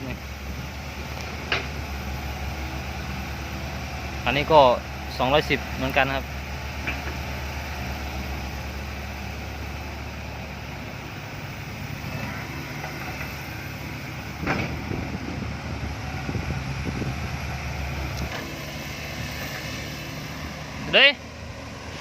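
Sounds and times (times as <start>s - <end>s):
dump truck diesel engine: 0.0s - 22.0s.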